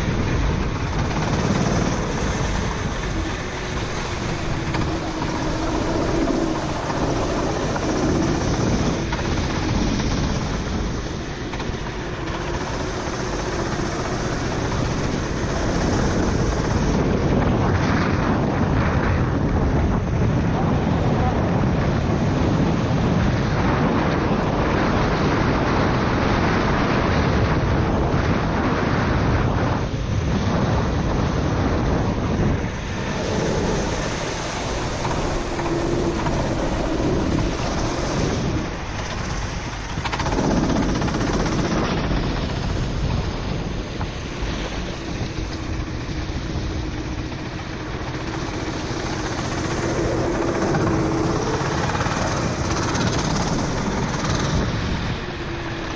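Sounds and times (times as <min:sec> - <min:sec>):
kart engine running: 0:00.0 - 0:27.1, 0:30.0 - 0:55.9
wind noise: 0:00.0 - 0:55.9.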